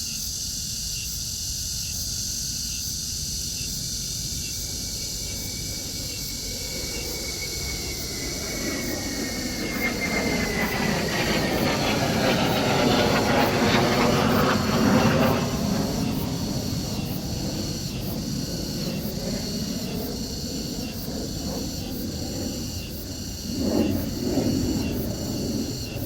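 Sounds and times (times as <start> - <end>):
airplane flying overhead: 0.0 - 26.0.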